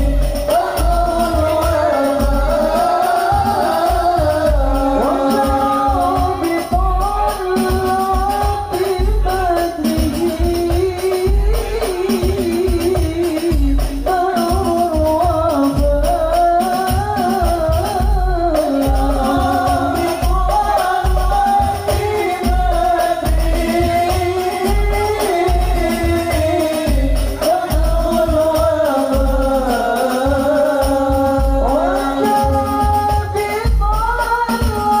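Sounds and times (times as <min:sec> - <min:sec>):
high solo voice singing: 0:00.0 - 0:35.0
low drum beats: 0:00.0 - 0:35.0.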